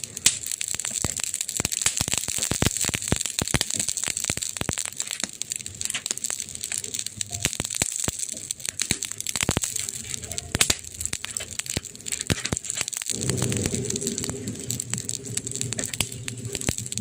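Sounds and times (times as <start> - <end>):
steady hiss: 0.0 - 17.0
wood fire crackling and popping: 0.0 - 17.0.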